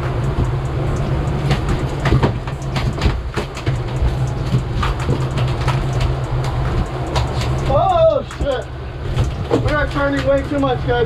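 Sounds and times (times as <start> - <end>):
boat engine running: 0.0 - 11.0
knocks and clatter: 0.0 - 11.0.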